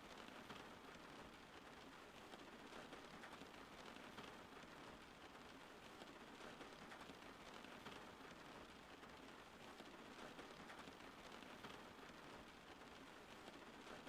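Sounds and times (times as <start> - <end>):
faint rain: 0.0 - 14.0.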